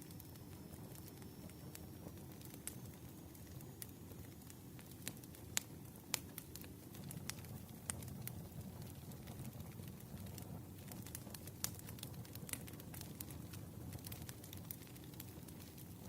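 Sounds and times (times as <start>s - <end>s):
campfire crackling: 0.0s - 16.0s
fire pops: 0.1s - 16.0s.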